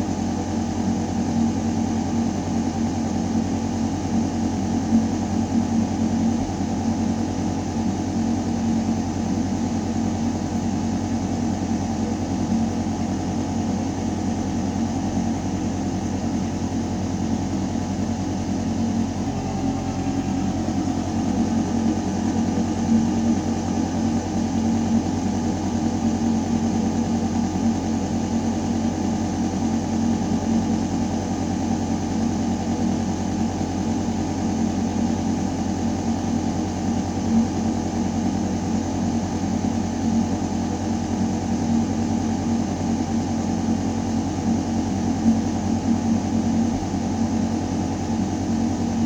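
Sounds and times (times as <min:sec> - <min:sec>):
ventilation droning hum: 0:00.0 - 0:49.0.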